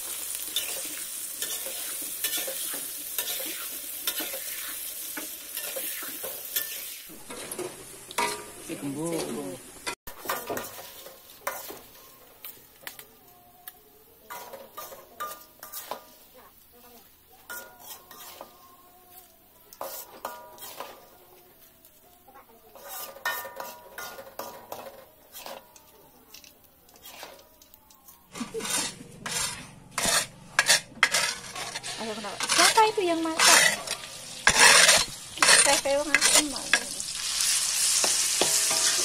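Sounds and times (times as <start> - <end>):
metal spatula scraping a wok: 0.1 - 12.0, 14.3 - 16.4, 17.4 - 21.6, 22.4 - 39.0.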